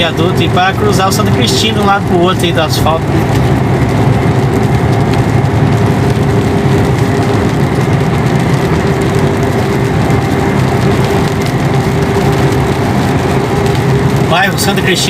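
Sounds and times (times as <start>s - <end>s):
road noise: 0.0s - 15.0s
truck engine running: 0.0s - 15.0s.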